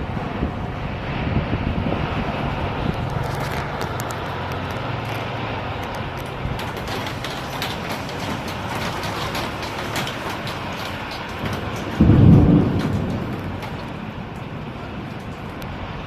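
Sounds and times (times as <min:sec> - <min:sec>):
storm wind rushing: 0:00.0 - 0:03.7, 0:06.3 - 0:16.0.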